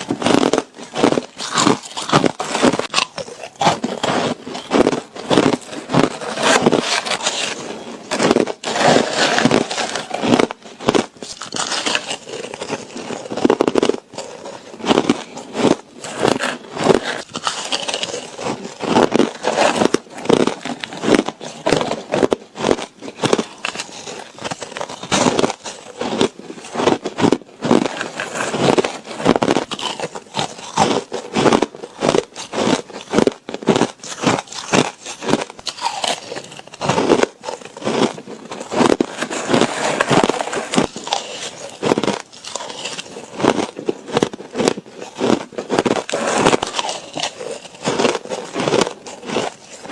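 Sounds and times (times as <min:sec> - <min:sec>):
person chewing ice: 0:00.0 - 0:49.9.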